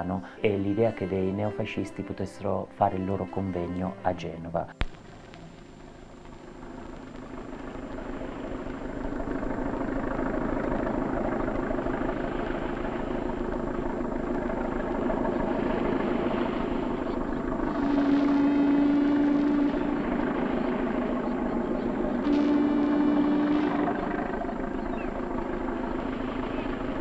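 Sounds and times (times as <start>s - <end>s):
low steady note: 0.0s - 27.0s
tugboat engine droning: 0.0s - 27.0s.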